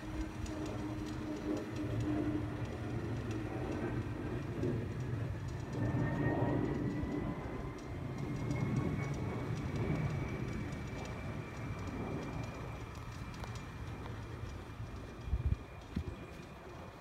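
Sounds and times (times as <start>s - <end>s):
faint rising whine: 0.0s - 17.0s
jet airliner rumbling overhead: 0.0s - 17.0s.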